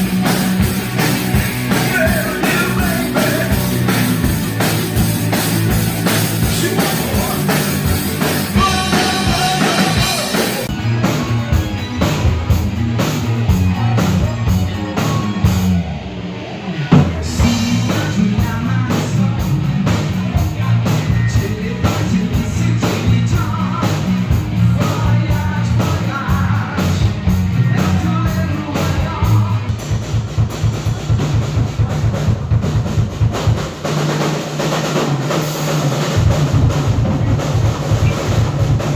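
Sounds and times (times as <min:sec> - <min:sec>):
rock music with drums: 0:00.0 - 0:38.9.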